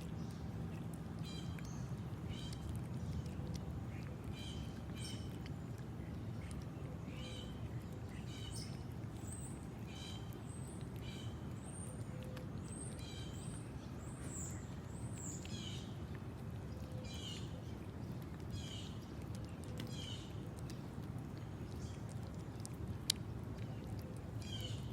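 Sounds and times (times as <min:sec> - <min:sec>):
small birds chirping: 0:00.0 - 0:24.9
steady low rumble: 0:00.0 - 0:24.9.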